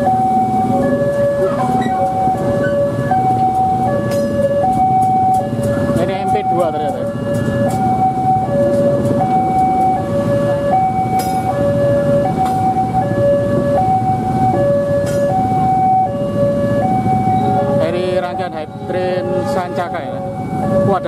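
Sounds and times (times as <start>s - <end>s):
train rumbling on rails: 0.0s - 21.0s
two-tone crossing alarm: 0.0s - 21.0s.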